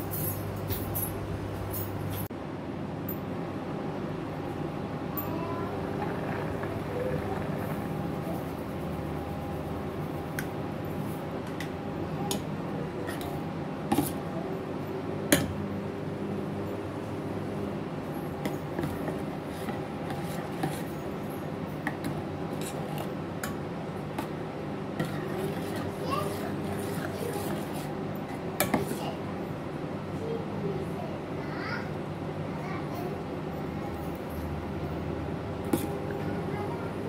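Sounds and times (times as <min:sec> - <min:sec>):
background hum: 0:00.0 - 0:37.0.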